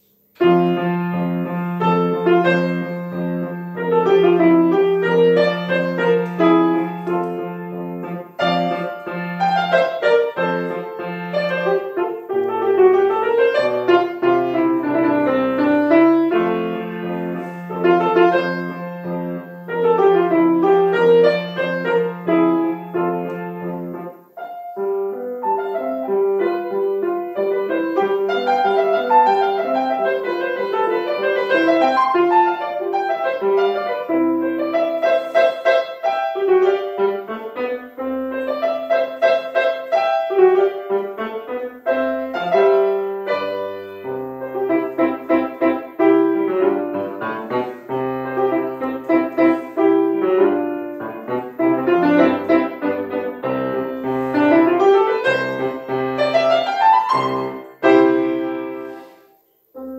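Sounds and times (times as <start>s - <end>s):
solo grand piano: 0.0s - 59.9s.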